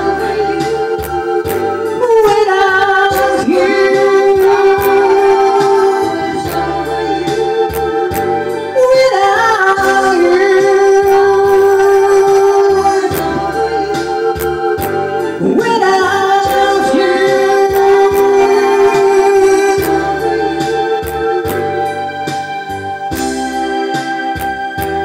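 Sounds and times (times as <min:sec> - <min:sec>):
slow rock backing track: 0:00.0 - 0:25.0.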